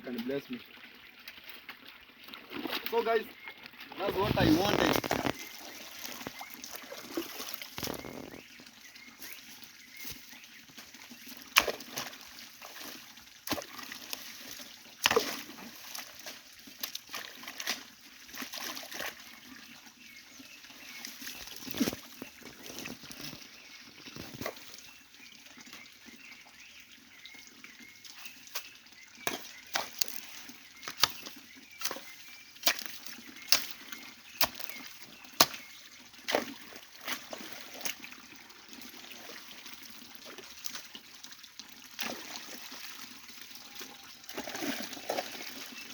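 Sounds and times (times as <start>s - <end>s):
water splashing: 0.0s - 19.6s, 28.2s - 45.9s
flowing stream water: 0.0s - 45.9s.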